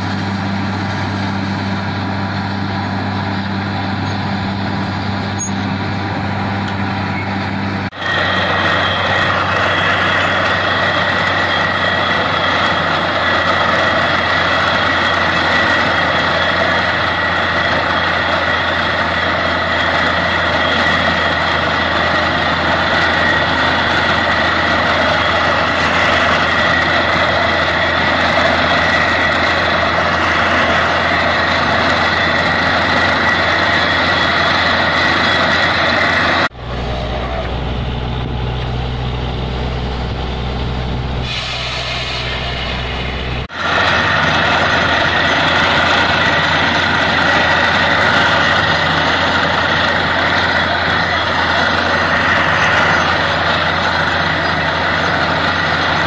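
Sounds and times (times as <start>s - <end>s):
drilling rig running: 0.0s - 56.0s.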